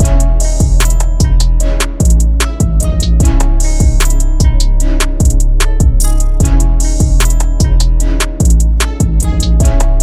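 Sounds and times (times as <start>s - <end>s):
deep bass: 0.0s - 10.0s
drums: 0.0s - 10.0s.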